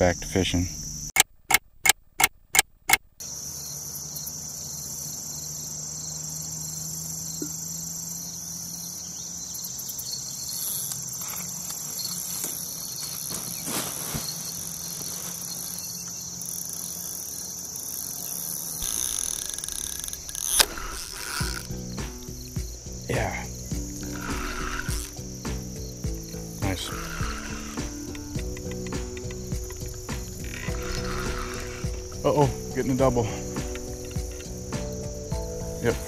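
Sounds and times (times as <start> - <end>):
crickets and insects singing: 0.0 - 1.2, 3.2 - 36.0.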